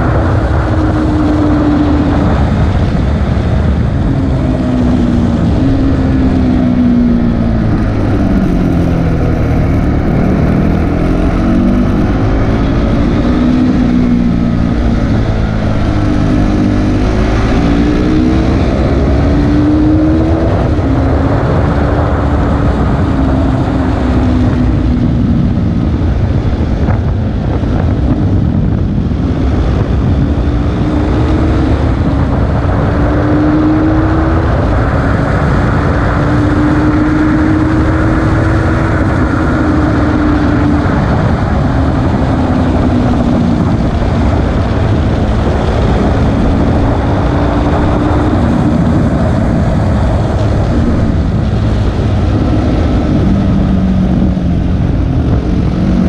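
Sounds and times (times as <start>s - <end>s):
motorcycle engine revving: 0.0s - 56.0s
wind rushing on microphone: 0.0s - 56.0s.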